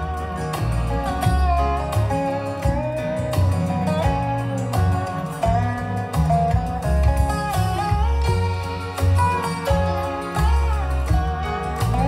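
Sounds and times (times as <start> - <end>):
country song with guitar: 0.0 - 12.0.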